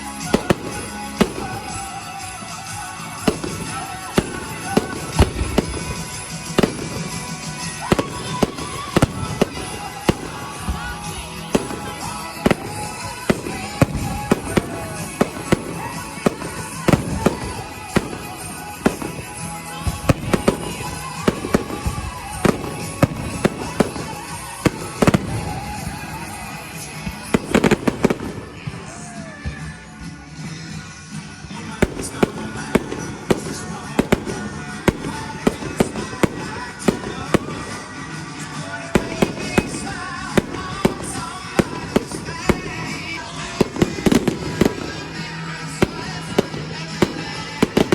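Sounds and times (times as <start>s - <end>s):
continuous music: 0.0s - 47.9s
fireworks bangs and cracks: 0.0s - 47.9s.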